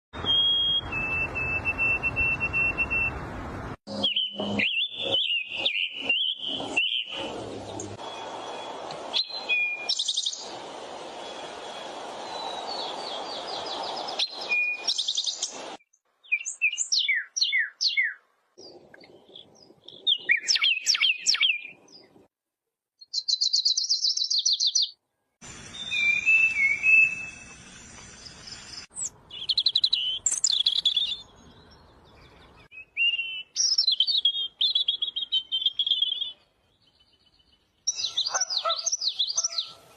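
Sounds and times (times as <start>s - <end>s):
birds chirping and trilling: 0.2s - 3.2s, 3.9s - 22.3s, 23.0s - 39.9s.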